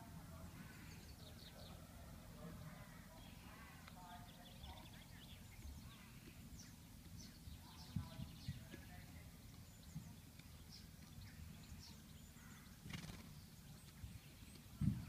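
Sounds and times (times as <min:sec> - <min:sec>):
low steady rumble: 0:00.0 - 0:15.0
small birds chirping: 0:00.0 - 0:15.0.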